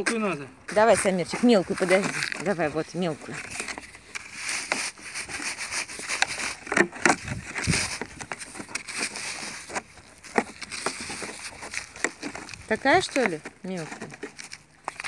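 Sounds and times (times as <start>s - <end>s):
plastic toy rake scraping soil: 0.0s - 15.0s.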